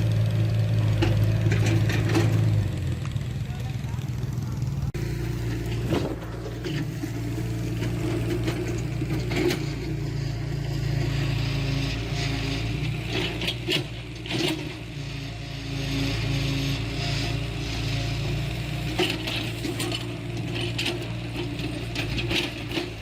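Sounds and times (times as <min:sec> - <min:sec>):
heavy diesel machine running: 0:00.0 - 0:23.0
metallic clanks and scrapes: 0:00.8 - 0:02.7, 0:05.2 - 0:23.0.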